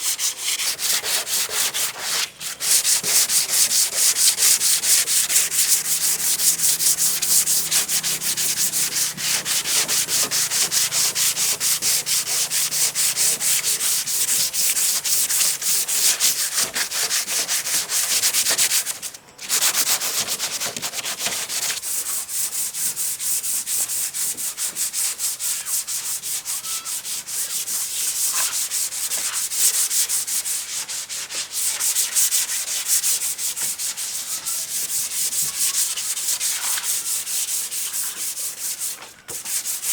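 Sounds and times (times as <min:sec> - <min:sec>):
hand sanding with sandpaper: 0:00.0 - 0:39.9.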